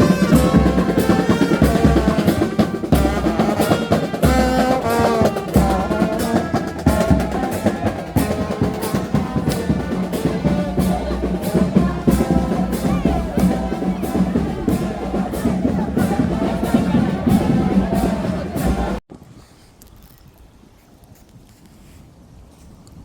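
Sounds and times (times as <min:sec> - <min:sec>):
horns playing a melody: 0:00.0 - 0:19.0
steady drumbeat: 0:00.0 - 0:19.0.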